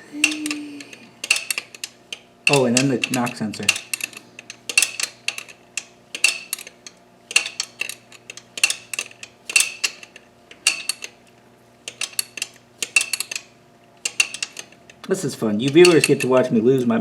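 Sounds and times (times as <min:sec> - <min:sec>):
socket ratchet clicking: 0:00.2 - 0:11.2, 0:11.8 - 0:16.3.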